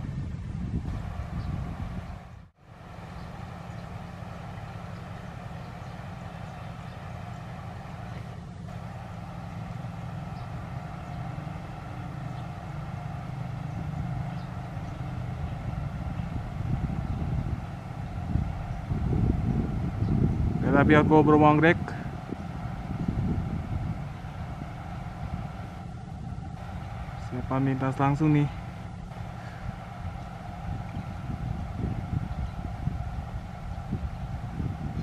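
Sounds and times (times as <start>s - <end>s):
distant train rumble: 0.0s - 35.0s
wind rumbling on microphone: 0.0s - 35.0s.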